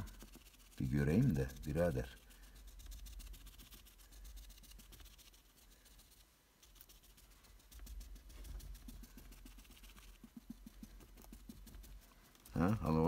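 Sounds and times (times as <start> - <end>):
sponge dabbing on leather: 0.0 - 13.0.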